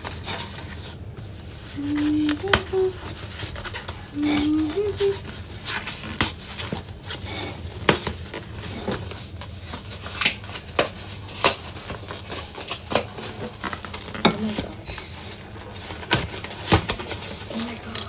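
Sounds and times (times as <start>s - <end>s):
paper packaging rustling and crinkling: 0.0s - 18.0s.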